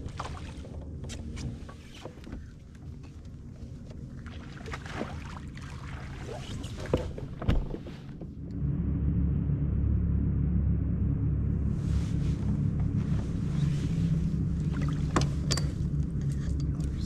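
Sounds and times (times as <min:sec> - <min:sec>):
kayak low rumble: 0:00.0 - 0:17.0.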